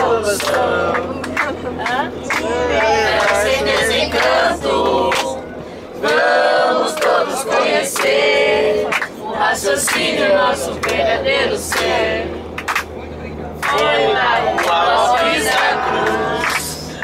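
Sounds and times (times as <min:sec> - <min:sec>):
passengers singing in chorus: 0:00.0 - 0:17.0.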